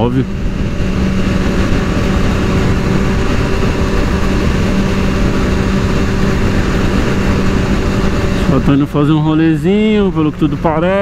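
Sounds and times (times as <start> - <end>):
motorcycle engine cruising: 0.0 - 11.0
wind rushing over microphone: 0.0 - 11.0.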